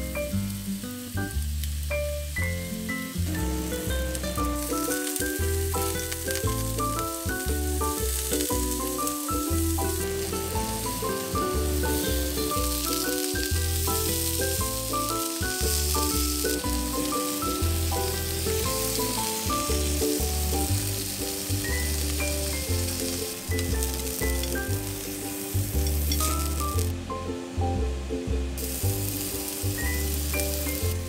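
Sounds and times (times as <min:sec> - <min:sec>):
food sizzling in a frying pan: 0:00.0 - 0:27.0, 0:28.6 - 0:31.0
background music: 0:00.0 - 0:31.0.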